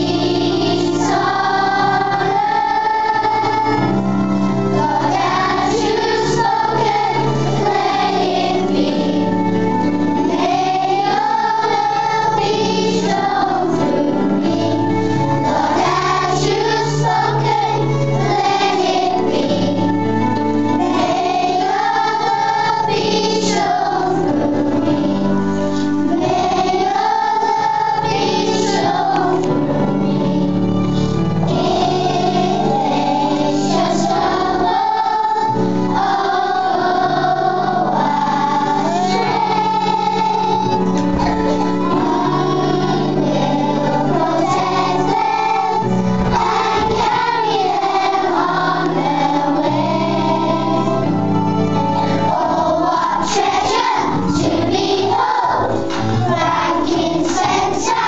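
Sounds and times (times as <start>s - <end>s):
children singing in unison: 0.0s - 58.0s
instrumental accompaniment with bass: 0.0s - 58.0s.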